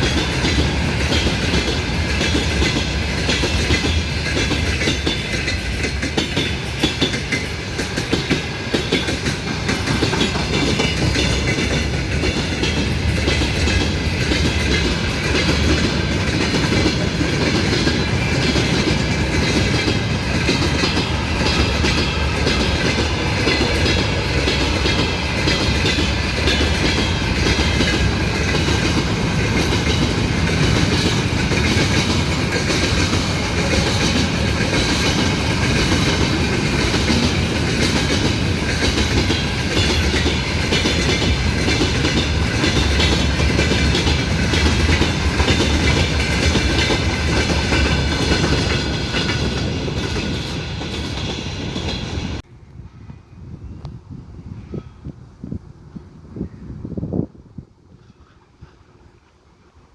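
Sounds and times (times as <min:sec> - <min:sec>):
train wheels clattering over rails: 0:00.0 - 0:52.5.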